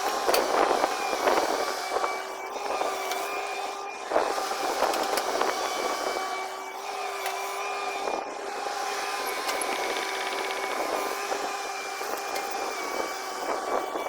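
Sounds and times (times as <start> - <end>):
excavator running: 0.0 - 14.0
mechanical whine: 0.0 - 14.0.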